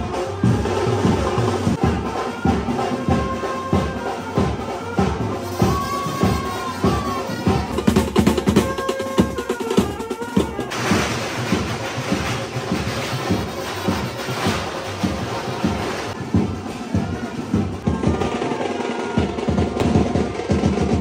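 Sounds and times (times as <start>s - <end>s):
bass drum and snare beat: 0.0s - 21.0s
procession band playing: 0.0s - 21.0s.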